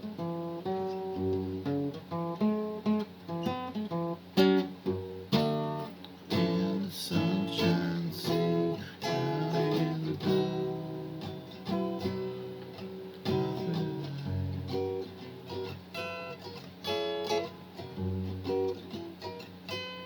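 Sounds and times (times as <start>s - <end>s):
acoustic guitar tune: 0.0s - 20.0s.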